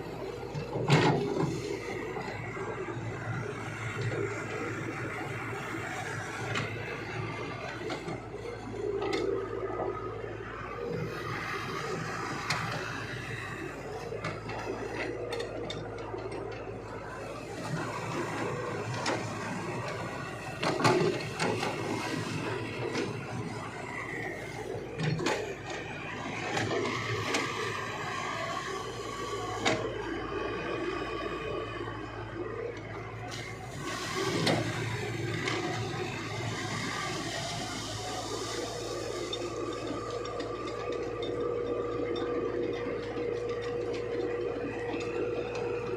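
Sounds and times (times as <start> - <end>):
excavator engine hum: 0.0 - 45.9.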